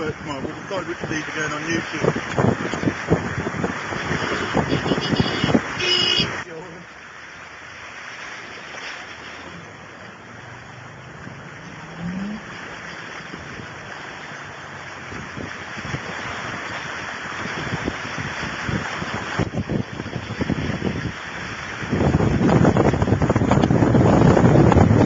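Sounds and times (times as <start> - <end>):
wind buffeting microphone: 0.0 - 6.4, 11.1 - 25.0
heavy rain and rushing water: 0.0 - 25.0.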